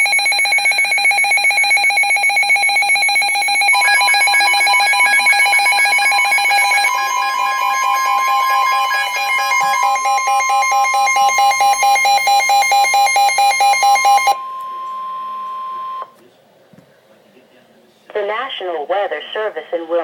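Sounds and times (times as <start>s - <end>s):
loud electronic alarm tone: 0.0s - 16.1s.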